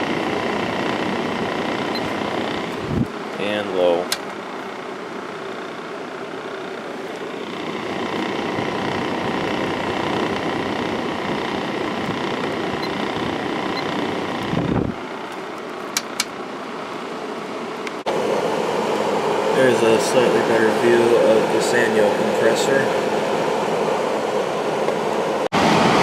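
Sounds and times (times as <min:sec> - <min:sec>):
air conditioner fan running: 0:00.0 - 0:26.0.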